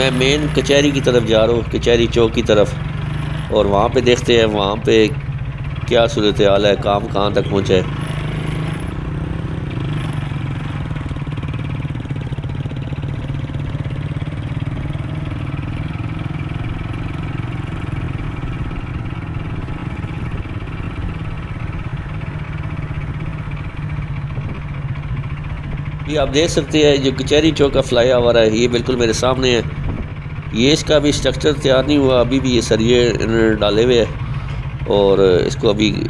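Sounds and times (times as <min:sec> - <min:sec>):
motorcycle engine running: 0:00.0 - 0:36.0
road and traffic noise: 0:00.0 - 0:36.0.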